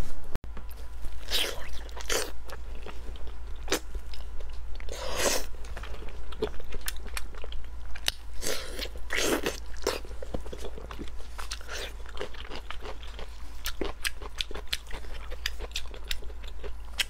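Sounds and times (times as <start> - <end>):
wet chewing: 1.3 - 17.0.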